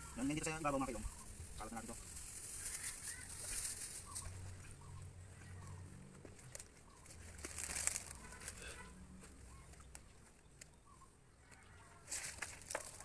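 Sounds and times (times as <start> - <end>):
dried leaves rustling: 0.0 - 10.7, 11.4 - 13.0.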